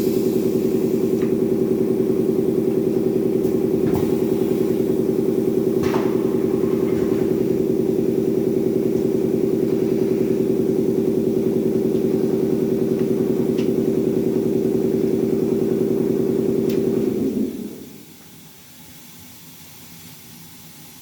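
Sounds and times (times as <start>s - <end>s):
welding machine motor humming: 0.0s - 18.0s.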